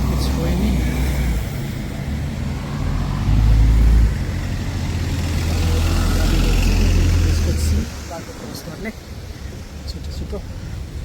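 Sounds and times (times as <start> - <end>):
traffic on wet street: 0.0 - 11.0.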